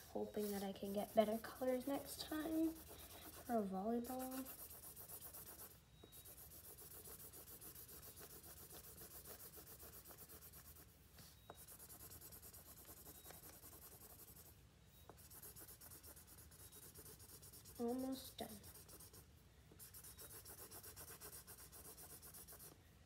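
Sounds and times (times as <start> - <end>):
marker scribbling on paper: 0.4 - 14.5, 15.1 - 19.2, 19.8 - 22.8.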